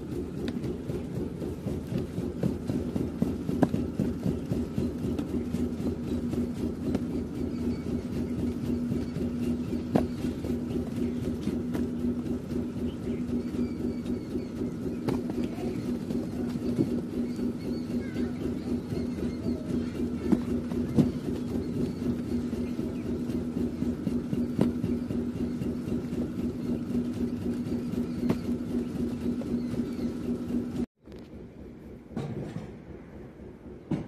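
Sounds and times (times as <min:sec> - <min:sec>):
engine low rumble: 0:00.0 - 0:34.0
steady hum: 0:00.0 - 0:34.0.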